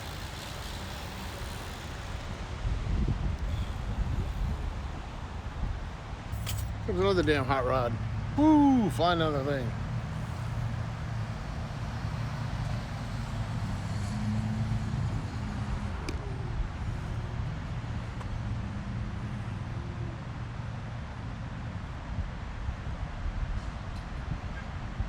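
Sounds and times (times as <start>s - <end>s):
passing car engines humming: 0.0s - 21.9s.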